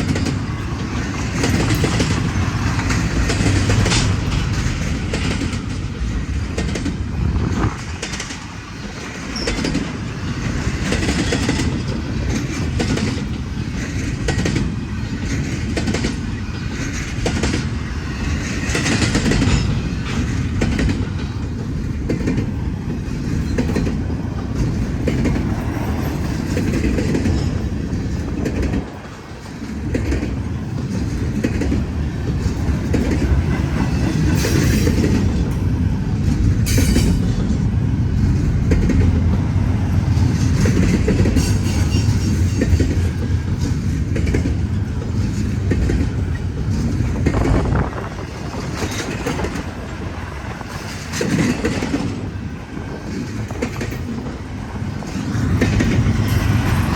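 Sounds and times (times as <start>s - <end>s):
freight train rolling past: 0.0s - 56.9s
train wheels clicking over rail joints: 0.0s - 56.9s.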